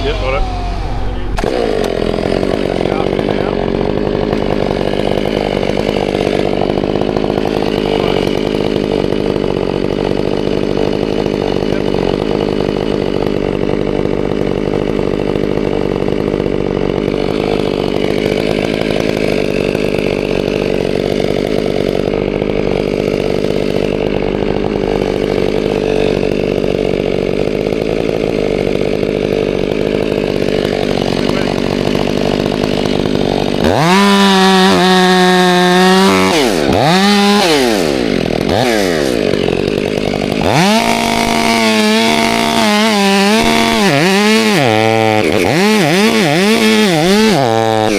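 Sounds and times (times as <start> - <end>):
chainsaw running: 0.0 - 47.9.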